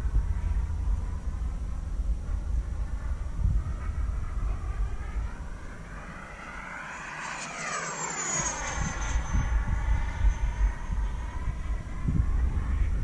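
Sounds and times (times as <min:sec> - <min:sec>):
model jet fan whining: 0:00.0 - 0:13.0
wind rumble on microphone: 0:00.0 - 0:13.0.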